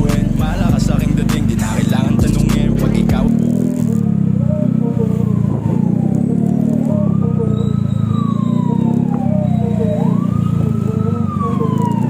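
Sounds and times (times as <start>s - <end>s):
low engine drone: 0.0s - 12.0s
wailing siren: 0.0s - 12.0s.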